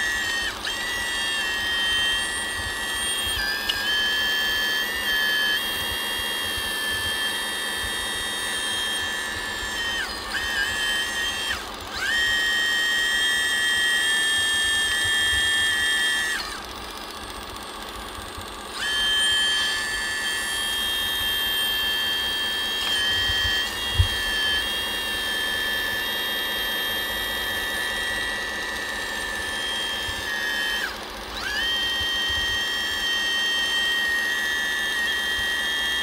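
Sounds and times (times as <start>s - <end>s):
high-pitched electric motor whine: 0.0s - 36.0s.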